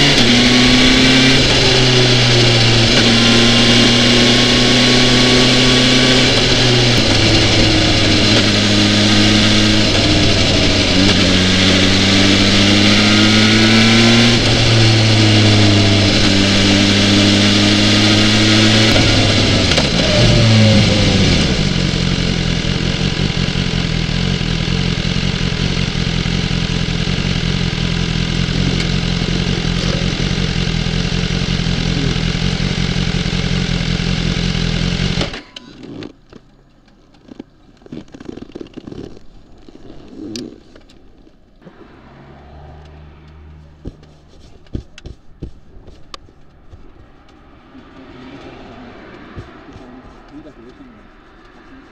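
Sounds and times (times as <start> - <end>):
motorcycle engine running: 0.0 - 36.2, 41.6 - 51.9.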